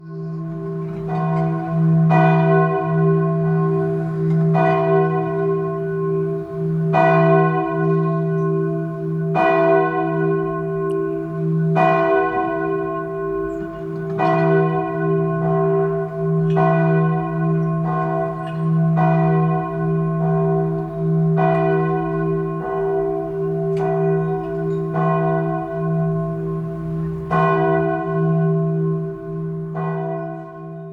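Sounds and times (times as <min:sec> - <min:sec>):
church bell tolling: 0:00.0 - 0:30.9.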